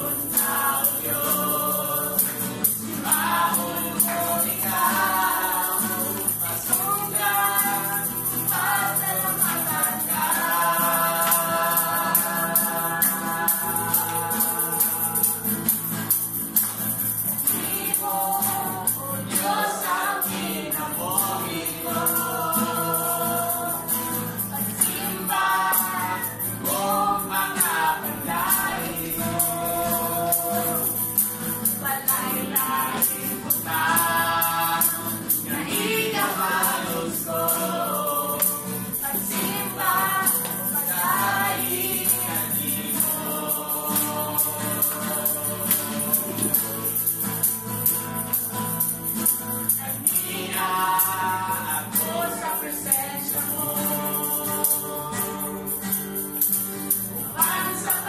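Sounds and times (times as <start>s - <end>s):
women leading worship song: 0.0s - 15.9s, 17.2s - 46.7s, 49.7s - 55.6s, 57.2s - 58.0s
acoustic guitar: 0.0s - 58.0s
congregation singing: 0.0s - 58.0s
tambourine shaken in rhythm: 0.0s - 58.0s.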